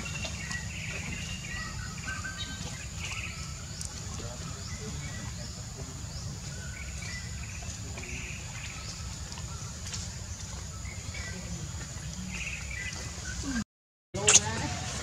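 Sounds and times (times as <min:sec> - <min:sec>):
birds chirping and trilling: 0:00.0 - 0:13.6.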